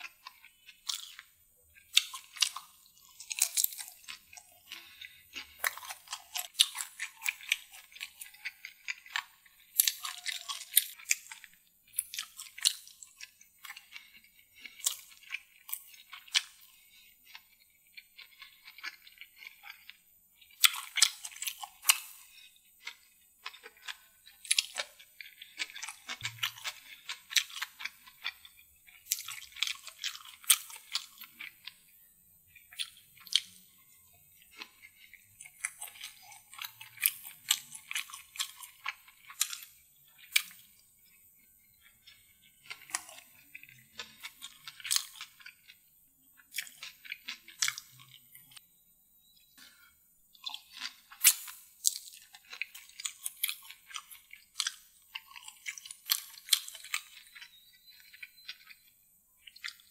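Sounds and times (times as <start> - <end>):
crunching and wet chewing: 0.0 - 48.6, 49.2 - 59.9.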